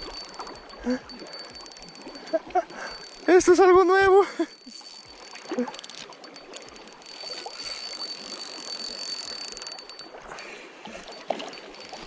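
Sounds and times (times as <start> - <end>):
fishing reel whine: 0.0 - 12.0
shallow river water rushing: 0.0 - 12.0.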